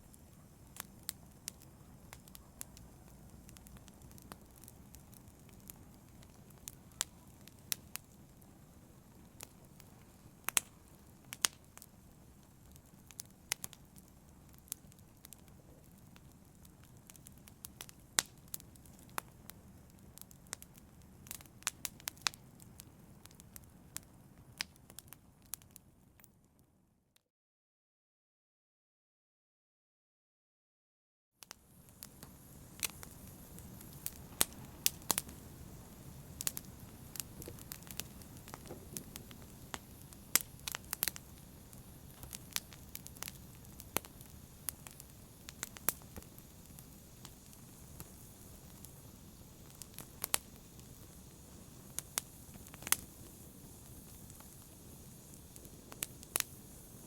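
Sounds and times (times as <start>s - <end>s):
low rumble of fire: 0.0s - 26.3s, 31.5s - 57.0s
wood fire crackling: 0.0s - 26.3s, 31.4s - 57.0s.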